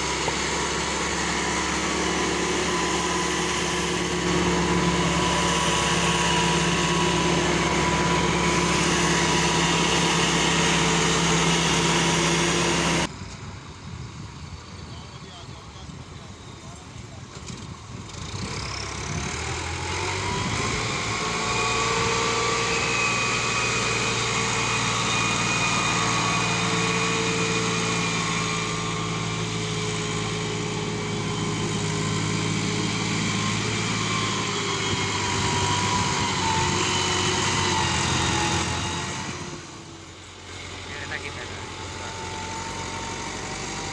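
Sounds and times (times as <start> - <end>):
tractor engine straining: 0.0 - 43.9.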